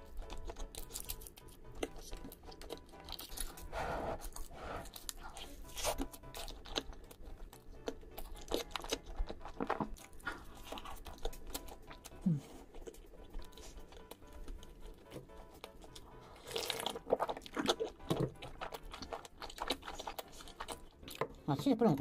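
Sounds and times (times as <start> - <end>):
burger being bitten and chewed: 0.0 - 21.5.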